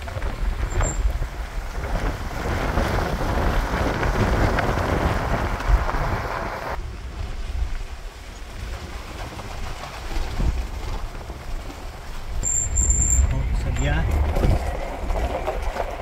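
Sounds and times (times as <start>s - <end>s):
vehicle rumble on dirt trail: 0.0s - 16.0s
wind on microphone: 0.0s - 16.0s.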